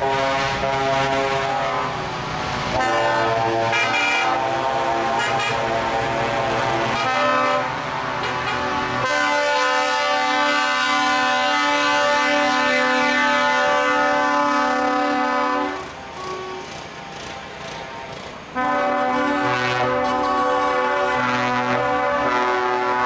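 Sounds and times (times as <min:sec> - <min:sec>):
truck air horns blasting: 0:00.0 - 0:17.1, 0:18.5 - 0:23.0.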